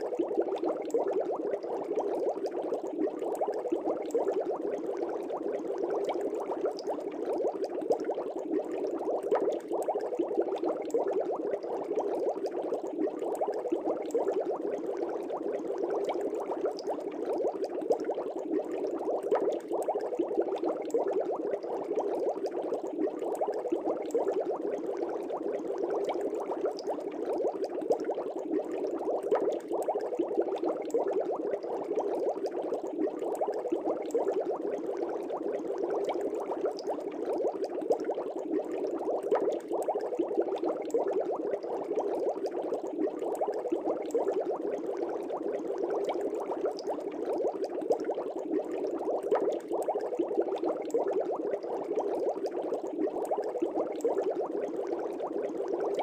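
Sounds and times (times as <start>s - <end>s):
aquarium air bubbling: 0.0s - 56.0s.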